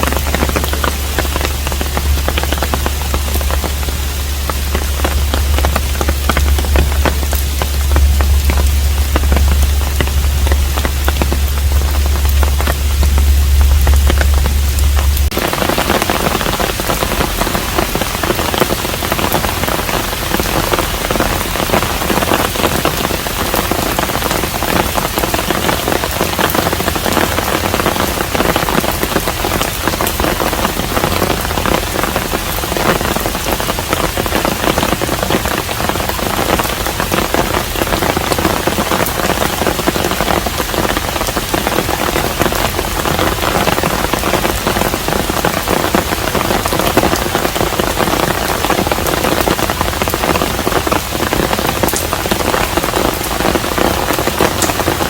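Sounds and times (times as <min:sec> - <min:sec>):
deep low rumble: 0:00.0 - 0:55.0
rain pattering: 0:00.0 - 0:55.0.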